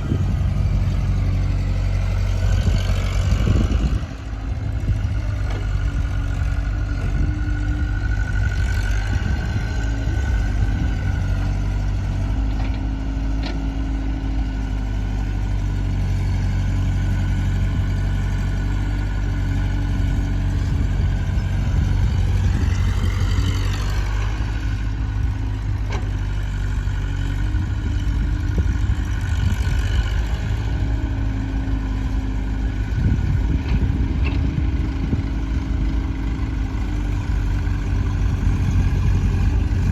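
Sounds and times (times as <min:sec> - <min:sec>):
diesel engines rumbling: 0:00.0 - 0:39.9.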